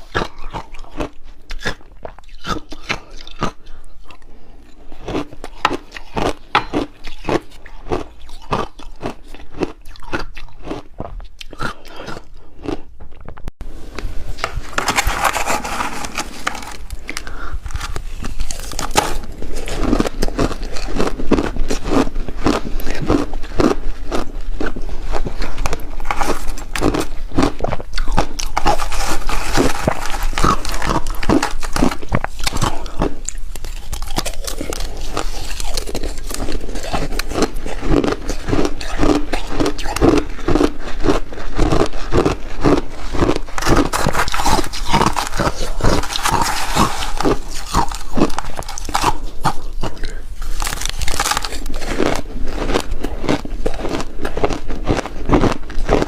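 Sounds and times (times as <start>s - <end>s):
person crunching ice: 0.0s - 12.9s, 14.3s - 56.0s.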